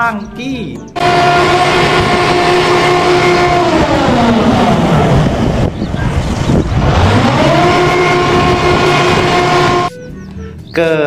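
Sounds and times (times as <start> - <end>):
truck engine running fast: 1.0 - 10.0.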